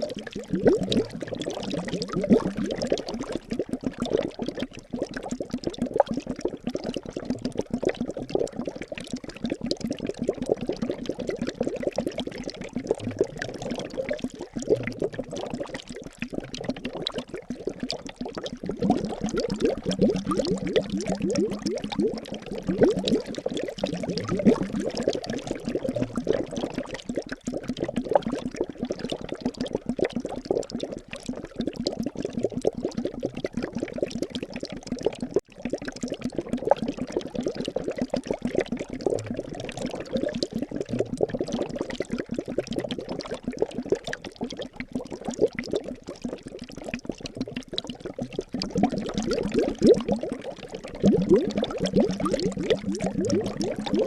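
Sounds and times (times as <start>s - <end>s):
liquid bubbling: 0.0s - 54.0s.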